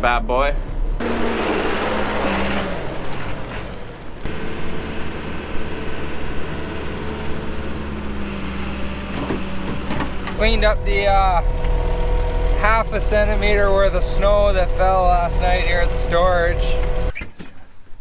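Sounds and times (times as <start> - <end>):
backhoe diesel engine running: 0.0 - 17.1.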